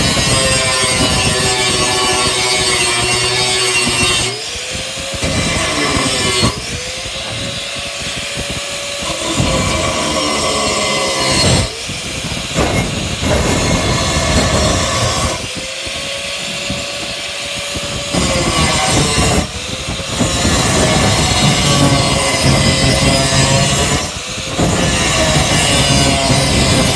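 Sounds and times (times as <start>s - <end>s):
angle grinder grinding steel: 0.0s - 26.9s.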